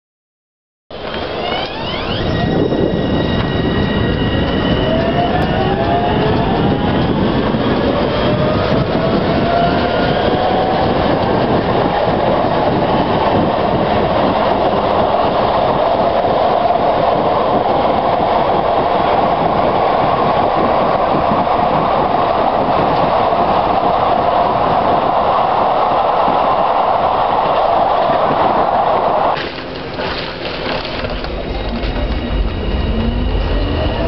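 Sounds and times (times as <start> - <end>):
tram motors whining: 0.9 - 34.0
wheels running on rails: 0.9 - 34.0.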